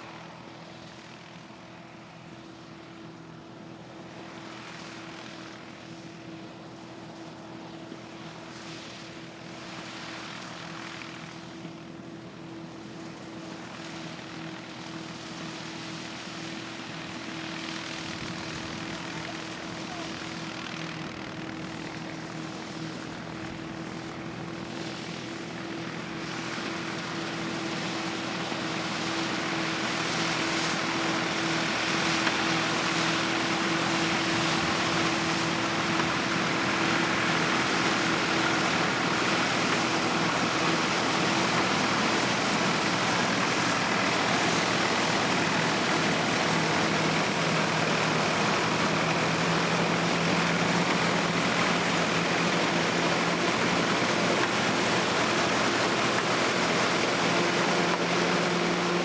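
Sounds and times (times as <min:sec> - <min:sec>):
harvest machinery engine drone: 0:00.0 - 0:59.0.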